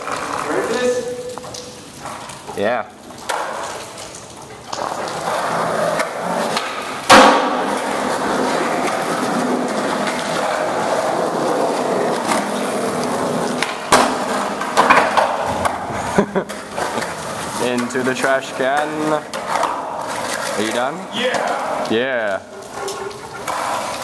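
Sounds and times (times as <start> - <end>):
skateboard clack: 0.0 - 2.4, 3.2 - 21.9, 22.6 - 24.0
skateboard wheels rolling on pavement: 0.0 - 24.0.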